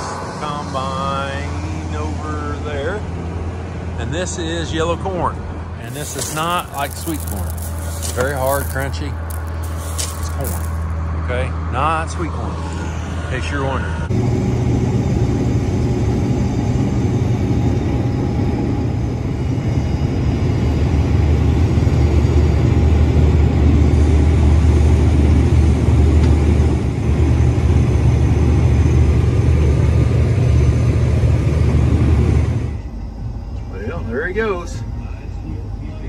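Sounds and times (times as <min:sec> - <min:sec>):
combine harvester drone: 0:00.0 - 0:36.0.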